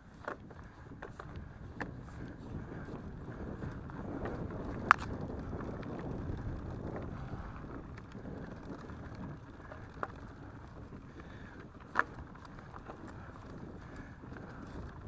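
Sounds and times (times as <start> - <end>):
bike tyres rumbling on dirt: 0.0 - 15.0
wind on microphone: 0.0 - 15.0.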